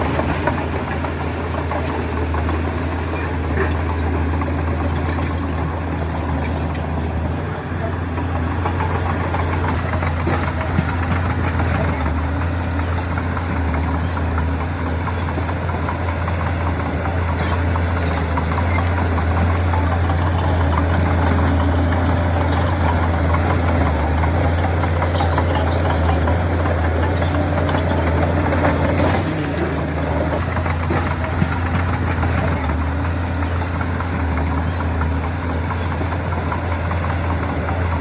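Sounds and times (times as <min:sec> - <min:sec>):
heavy diesel machinery running: 0:00.0 - 0:38.0
light clanks and rattles: 0:00.1 - 0:38.0.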